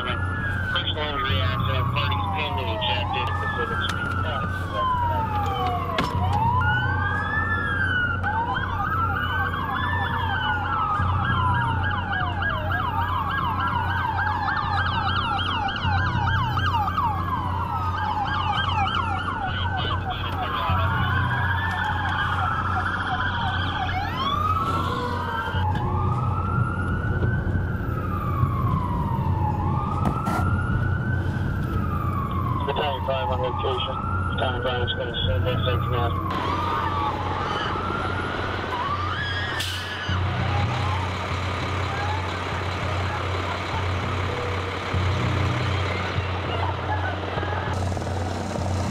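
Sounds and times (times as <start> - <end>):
emergency vehicle sirens wailing: 0.0 - 48.9.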